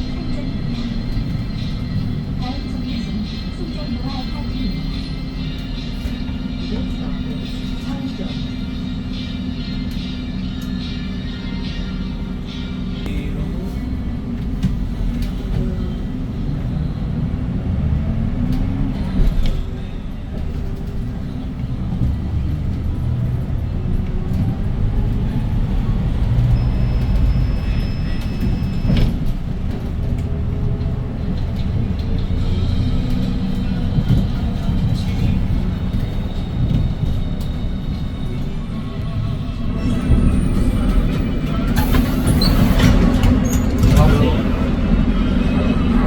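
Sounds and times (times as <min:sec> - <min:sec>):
bus engine running: 0:00.0 - 0:46.0
road rumble: 0:00.0 - 0:46.0.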